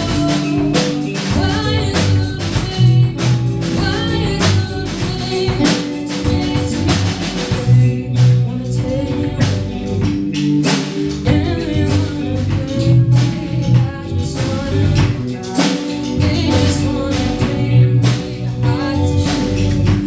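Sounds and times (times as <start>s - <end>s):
electric bass: 0.0s - 20.0s
electric guitar: 0.0s - 20.0s
woman singing: 0.0s - 20.0s.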